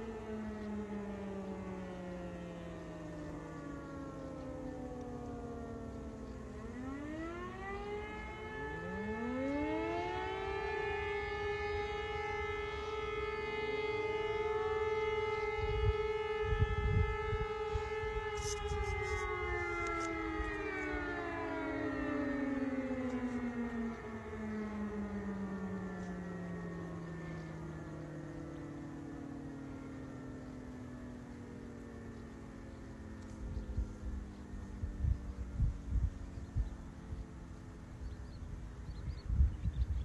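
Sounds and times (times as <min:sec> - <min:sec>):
motor sirens wailing: 0:00.0 - 0:40.0.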